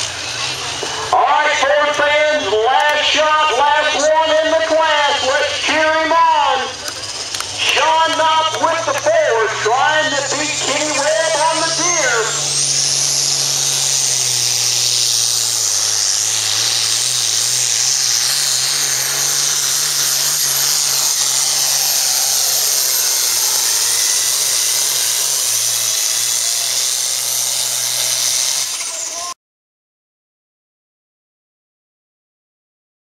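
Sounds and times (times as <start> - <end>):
diesel engine at full throttle: 0.0 - 29.4
high steady whine: 0.0 - 29.4.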